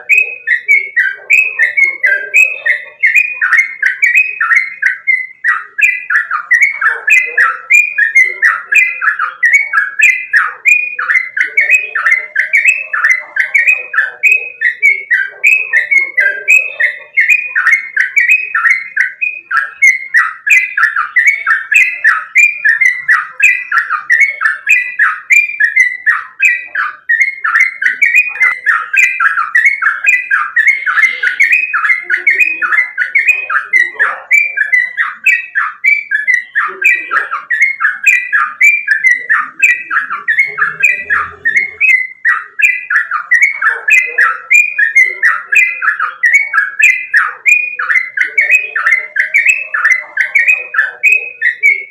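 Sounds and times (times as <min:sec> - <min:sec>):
bird calling in falling notes: 0:00.0 - 0:51.9.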